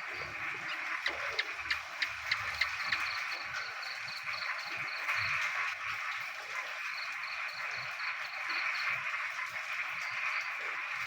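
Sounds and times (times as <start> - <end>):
chorus of frogs calling: 0.0 - 11.0.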